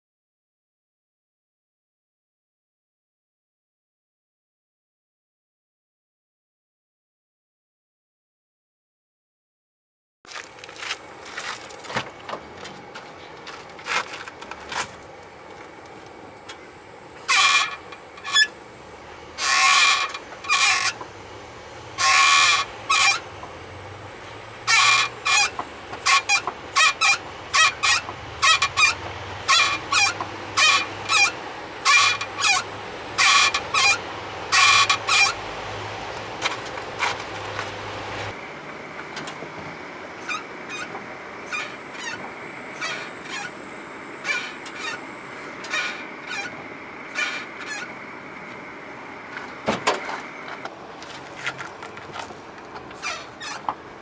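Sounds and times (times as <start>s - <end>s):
brakes squealing: 10.4s - 54.0s.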